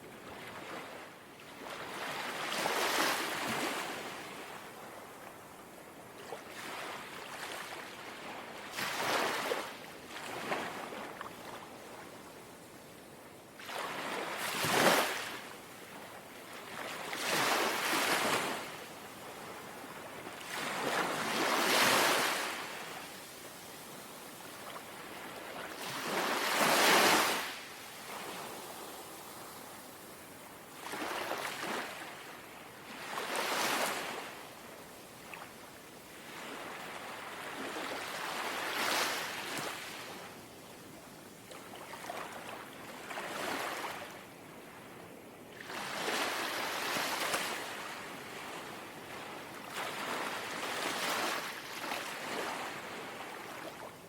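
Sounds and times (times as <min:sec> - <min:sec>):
gentle sea waves lapping: 0:00.3 - 0:12.5, 0:13.6 - 0:40.3, 0:40.9 - 0:54.0.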